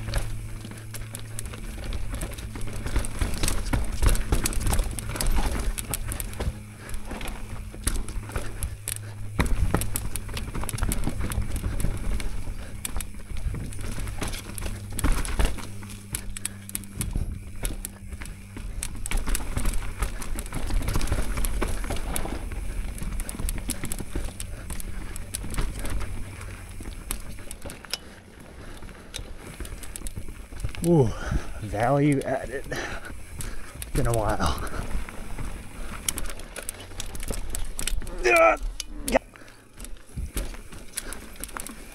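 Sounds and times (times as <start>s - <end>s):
bike clattering over bumps: 0.0s - 41.9s
bike tyres on dirt and rock: 0.0s - 41.9s
steady low hum: 0.0s - 41.9s.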